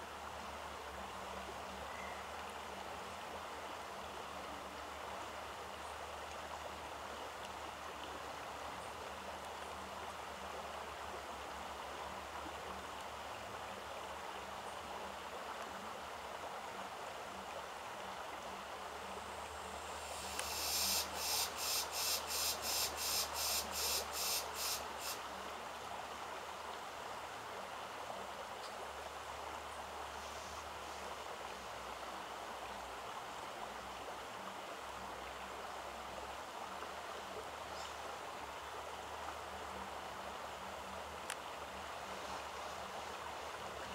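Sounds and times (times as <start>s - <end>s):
running water rushing: 0.0s - 43.9s.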